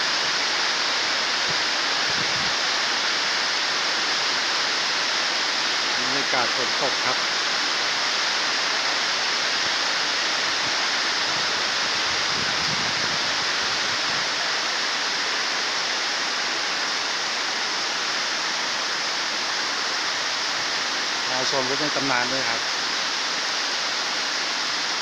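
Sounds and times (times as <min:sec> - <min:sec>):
rain falling steadily: 0:00.0 - 0:25.0.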